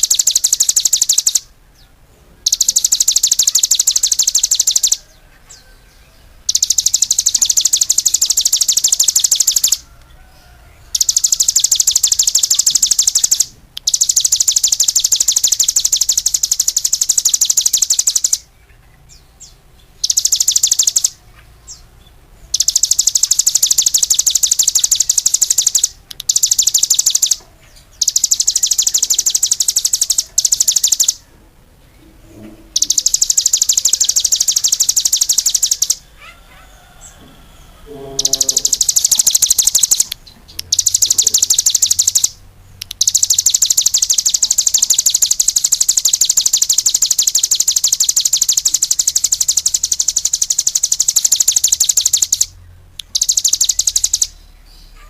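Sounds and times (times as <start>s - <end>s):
songbird high-pitched trills: 0.0s - 55.0s.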